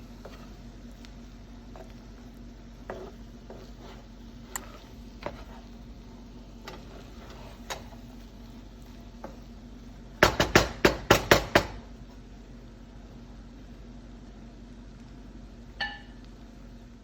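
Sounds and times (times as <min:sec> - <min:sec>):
low steady hum: 0:00.0 - 0:10.8, 0:11.7 - 0:17.0.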